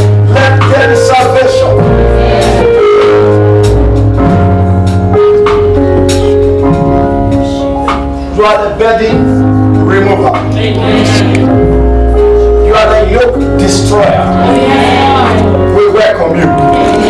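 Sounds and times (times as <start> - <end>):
steady bass line: 0.0 - 17.0
worship music with held chords: 0.0 - 17.0.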